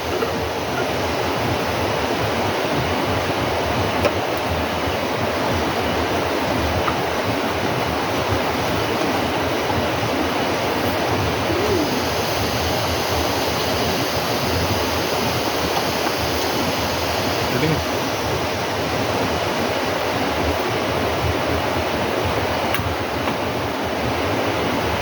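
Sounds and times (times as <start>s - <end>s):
water flowing: 0.0s - 25.0s.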